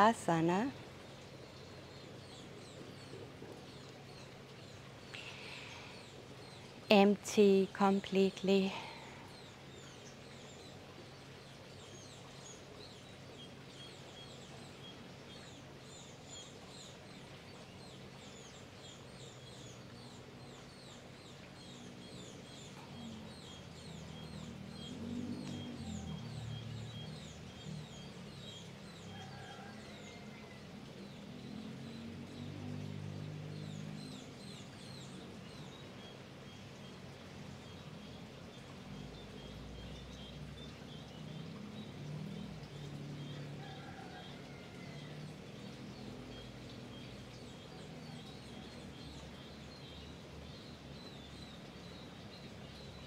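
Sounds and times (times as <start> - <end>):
outdoor background noise: 0.0 - 53.0.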